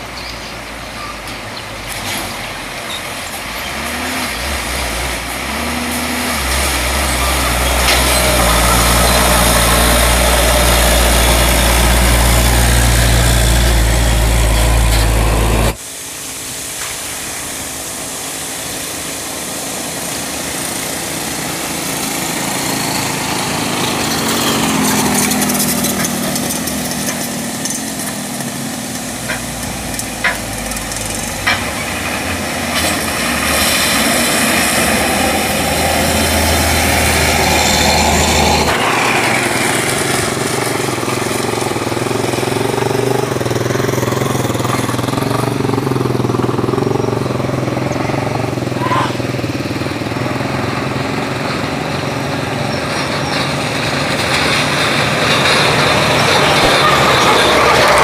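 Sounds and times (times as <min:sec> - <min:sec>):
diesel trucks driving past: 0:00.0 - 0:58.0.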